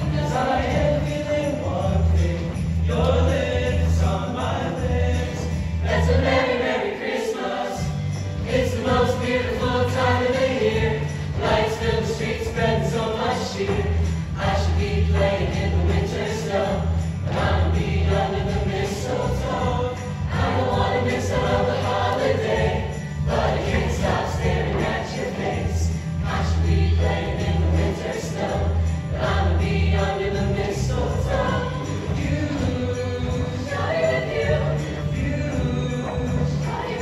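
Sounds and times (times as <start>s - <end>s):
choir singing a christmas song: 0.0s - 37.0s
choir singing in harmony: 0.0s - 37.0s.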